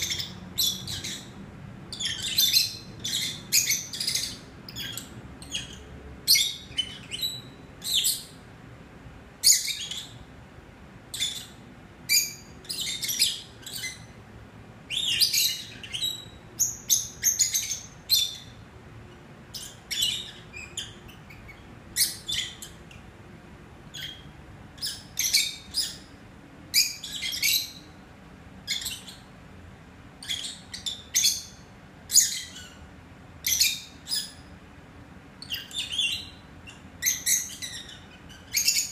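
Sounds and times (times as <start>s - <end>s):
lovebirds chirping: 0.0s - 8.5s, 9.4s - 10.4s, 11.1s - 23.1s, 23.8s - 29.4s, 30.1s - 34.6s, 35.3s - 38.9s.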